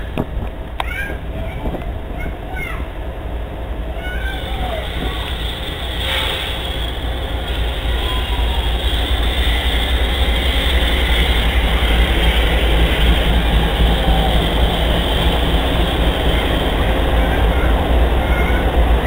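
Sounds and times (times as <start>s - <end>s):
diesel locomotive engine rumble: 0.0s - 19.0s
wheels rushing on rail: 0.0s - 19.0s.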